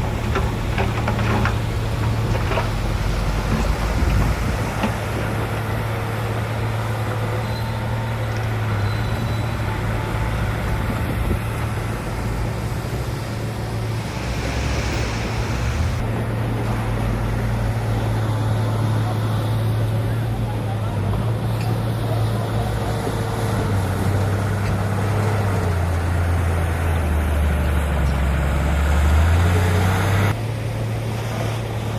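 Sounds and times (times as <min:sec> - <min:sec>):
heavy diesel engine running: 0:00.0 - 0:28.4.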